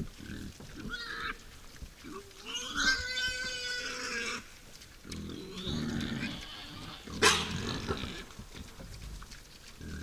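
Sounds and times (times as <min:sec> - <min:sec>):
wild boars grunting: 0:00.0 - 0:09.0, 0:09.7 - 0:10.0.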